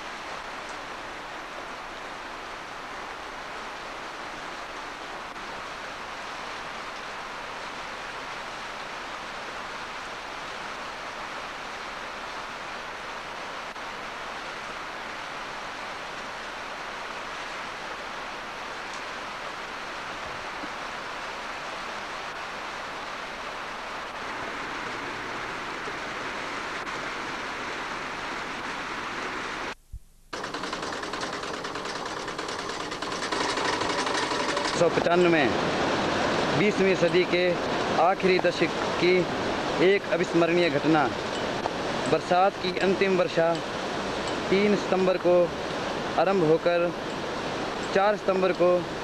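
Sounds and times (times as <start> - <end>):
heavy rain hissing: 0.0 - 49.0
rushing mountain stream: 0.0 - 49.0.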